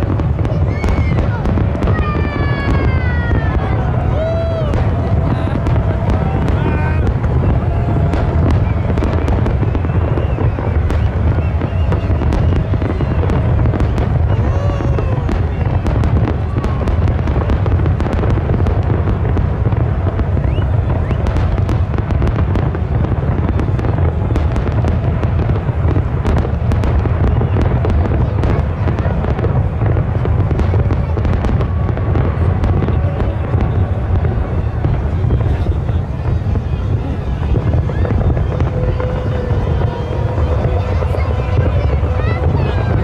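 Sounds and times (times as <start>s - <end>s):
fireworks bursting: 0.0s - 43.0s
low rumble: 0.0s - 43.0s.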